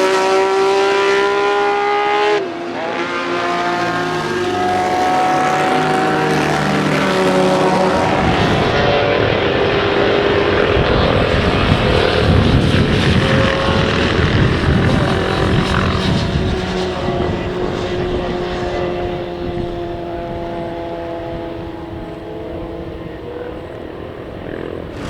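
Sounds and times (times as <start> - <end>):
motorcycle engine at speed: 0.0 - 25.0.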